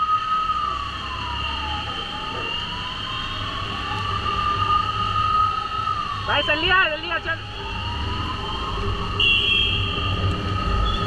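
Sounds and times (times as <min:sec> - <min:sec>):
ambulance siren wailing: 0:00.0 - 0:11.0.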